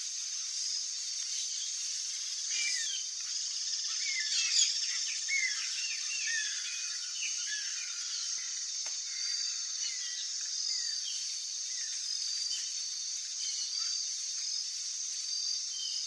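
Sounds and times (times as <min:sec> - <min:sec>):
high-pitched insect hum: 0:00.0 - 0:16.0.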